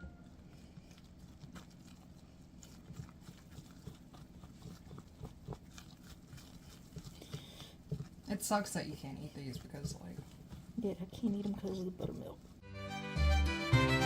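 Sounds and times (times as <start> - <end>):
dough squishing in bowl: 0.0 - 12.7.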